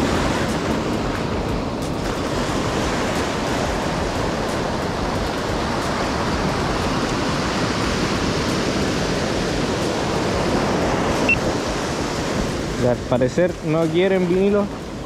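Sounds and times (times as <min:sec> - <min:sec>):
ocean surf washing ashore: 0:00.0 - 0:15.0.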